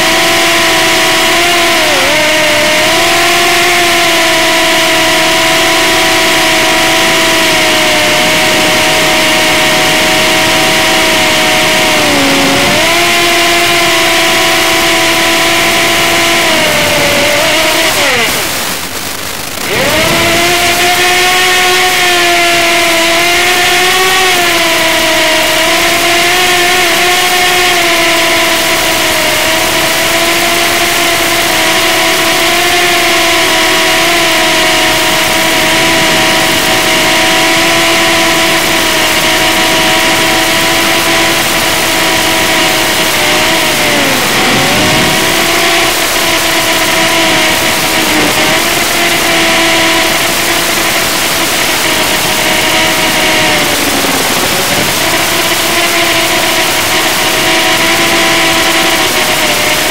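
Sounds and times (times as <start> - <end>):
quadcopter motors whining: 0.0 - 59.9.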